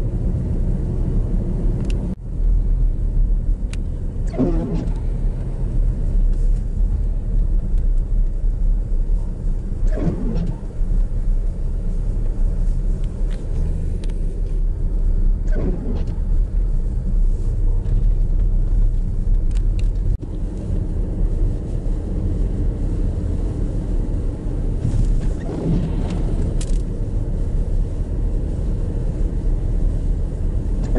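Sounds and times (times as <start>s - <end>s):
vehicle engine and tyres rumbling: 0.0s - 30.9s.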